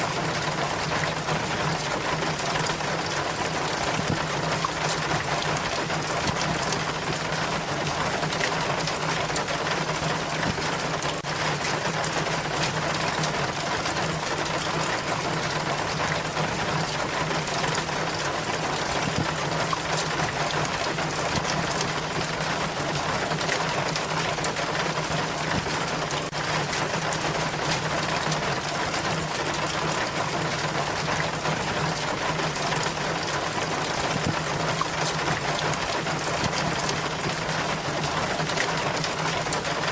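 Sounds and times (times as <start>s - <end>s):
rainwater splashing down rain chain: 0.0s - 39.9s.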